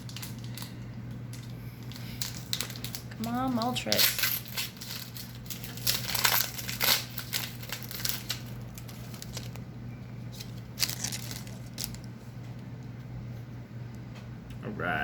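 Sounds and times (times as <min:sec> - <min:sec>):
foil wrapper crinkling: 0:00.0 - 0:12.2.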